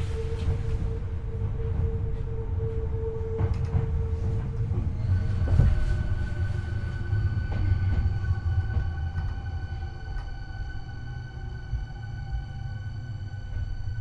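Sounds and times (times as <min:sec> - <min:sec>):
train wheel and motor rumble: 0:00.0 - 0:14.0.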